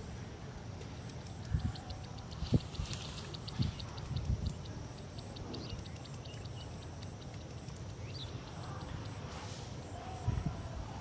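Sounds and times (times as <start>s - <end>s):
rapid high chirps: 1.0s - 10.2s.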